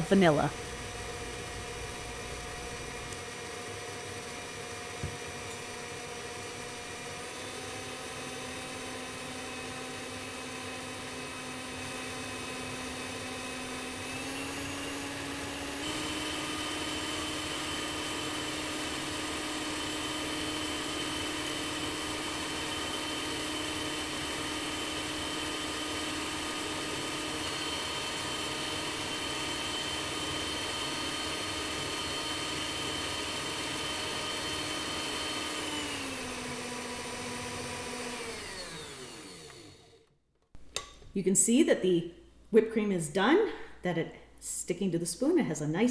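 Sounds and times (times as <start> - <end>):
stand mixer motor whine: 0.0 - 40.2.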